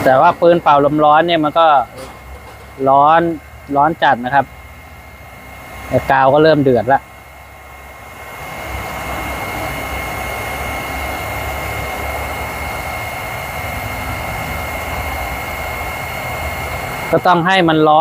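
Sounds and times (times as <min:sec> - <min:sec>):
heat gun blowing air with whine: 0:00.0 - 0:18.0.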